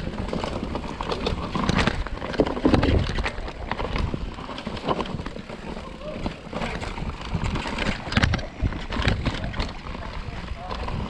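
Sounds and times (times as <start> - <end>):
bike knocks and rattles: 0.0 - 11.0
bike tyres rumbling over dirt: 0.0 - 11.0.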